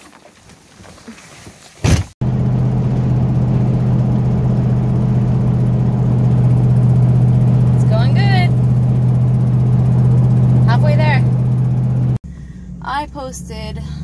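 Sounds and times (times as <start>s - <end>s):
pickup engine drone: 2.2s - 14.0s
road noise: 2.2s - 14.0s.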